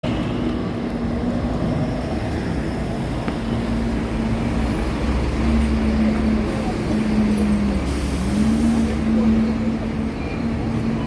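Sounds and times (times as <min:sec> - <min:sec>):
bus diesel engine droning: 0:00.1 - 0:11.0.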